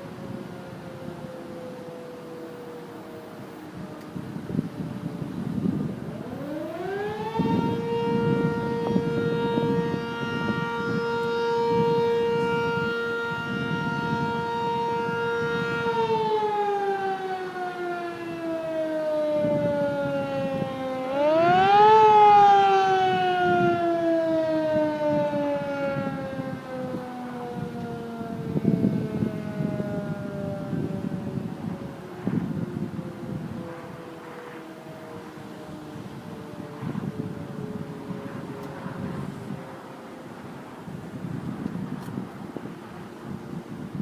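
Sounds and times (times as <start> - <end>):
warning siren wailing: 0.0 - 44.0.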